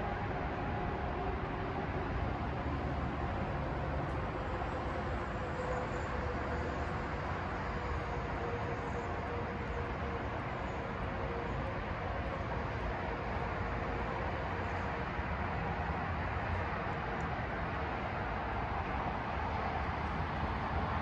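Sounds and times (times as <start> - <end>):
outdoor urban background noise: 0.0 - 21.0.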